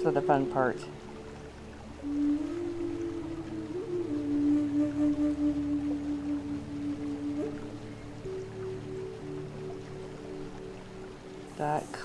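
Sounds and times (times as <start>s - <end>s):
long held wavering music note: 0.0s - 12.0s.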